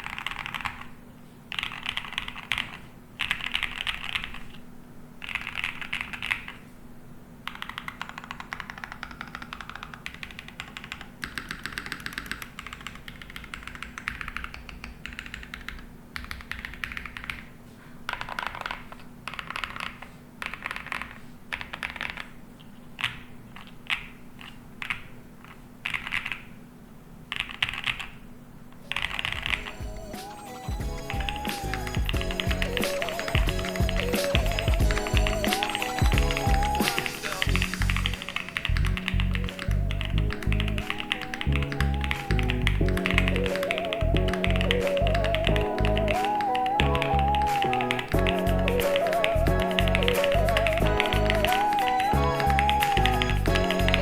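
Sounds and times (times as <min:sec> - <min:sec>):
mechanical keyboard rapid clacking: 0:00.0 - 0:04.6, 0:05.2 - 0:06.7, 0:07.4 - 0:17.5, 0:18.1 - 0:22.4, 0:23.0 - 0:26.6, 0:27.3 - 0:28.2, 0:28.9 - 0:29.9, 0:30.8 - 0:54.0.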